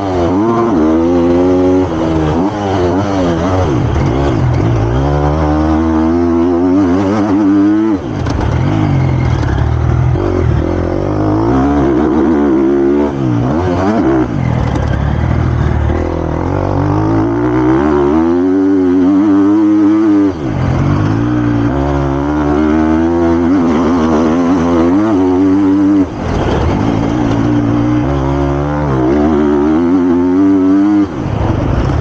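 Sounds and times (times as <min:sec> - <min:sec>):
motocross engine revving: 0:00.0 - 0:32.0.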